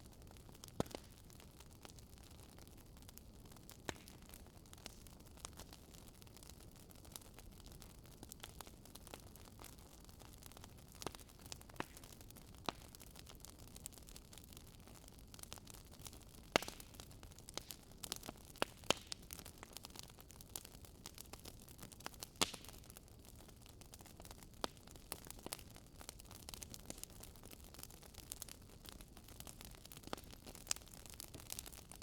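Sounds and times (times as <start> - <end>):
campfire crackling and popping: 0.0 - 32.0
low steady fire hiss: 0.0 - 32.0.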